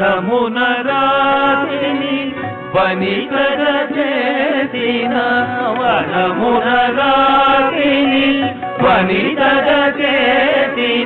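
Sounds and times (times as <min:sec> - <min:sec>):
devotional song with accompaniment: 0:00.0 - 0:11.0.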